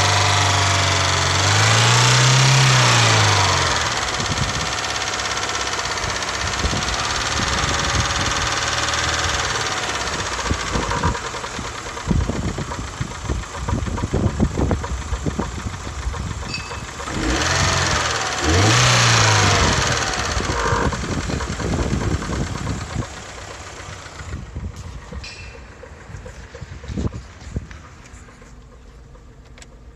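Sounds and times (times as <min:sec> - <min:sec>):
car engine knocking: 0:00.0 - 0:29.9.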